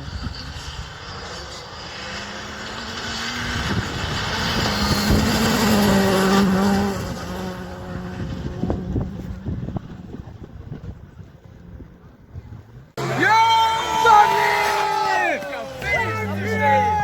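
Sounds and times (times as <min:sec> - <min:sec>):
rally car engine passing: 0:00.0 - 0:17.0.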